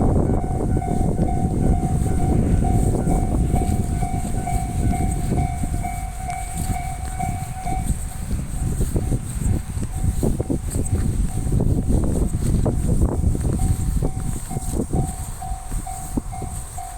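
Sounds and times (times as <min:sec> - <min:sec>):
crossing warning bell ringing: 0:00.0 - 0:16.9
train rumbling: 0:00.0 - 0:16.9.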